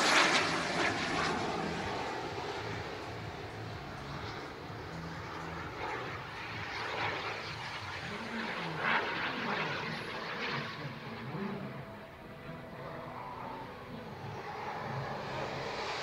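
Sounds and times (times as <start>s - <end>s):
model jet turbine flying past: 0.0s - 16.0s.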